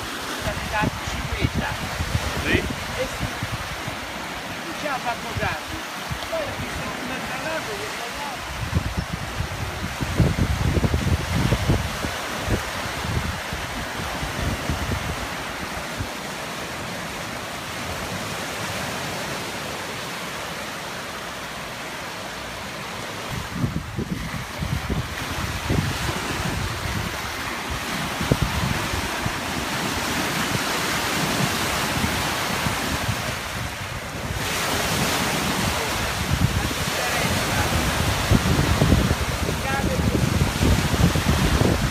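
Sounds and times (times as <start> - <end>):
wind buffeting microphone: 0.0 - 19.5, 22.9 - 41.9
lake waves breaking: 0.0 - 41.9.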